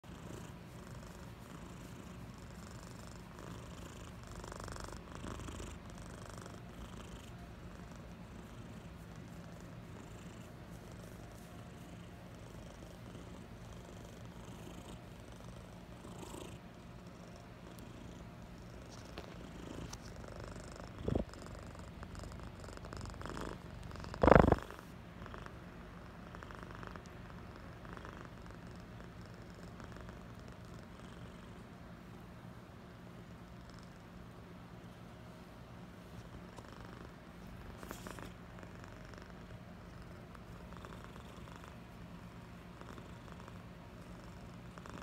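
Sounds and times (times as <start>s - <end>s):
cat purring: 0.0s - 32.2s, 33.1s - 34.4s, 36.0s - 45.0s.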